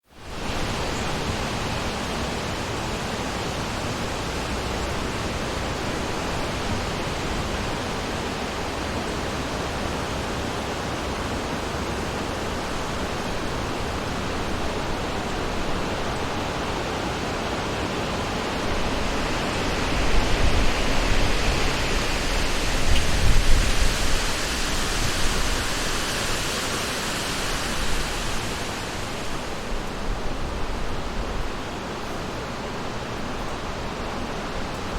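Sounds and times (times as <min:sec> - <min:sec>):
wind through trees: 0:00.0 - 0:34.9.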